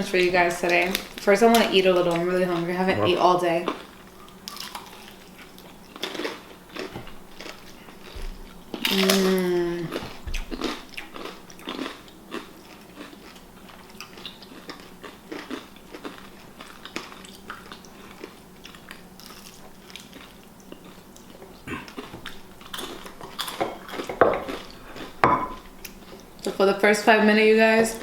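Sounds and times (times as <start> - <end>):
person chewing food: 0.6 - 26.4.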